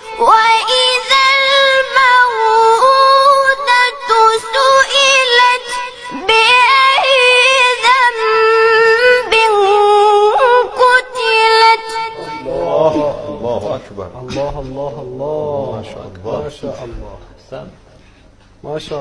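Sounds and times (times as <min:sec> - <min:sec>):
boy reciting melodically: 0:00.0 - 0:17.6.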